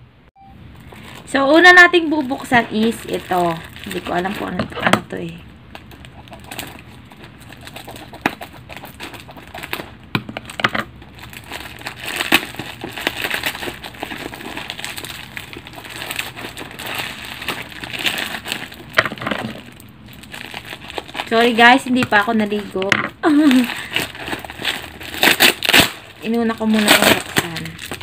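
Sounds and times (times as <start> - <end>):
plastic wrap and tape crinkling: 0.6 - 28.0.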